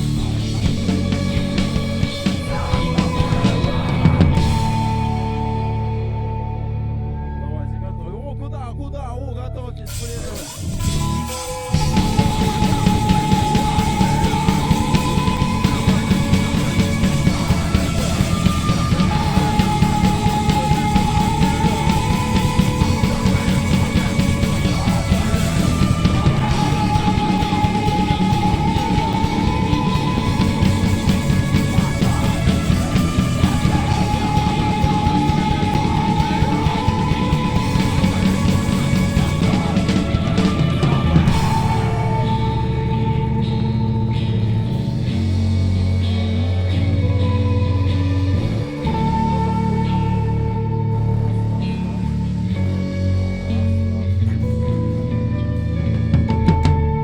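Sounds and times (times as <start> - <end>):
heavy rock band playing: 0.0 - 7.5, 9.9 - 57.0
held high melody line: 0.0 - 56.8.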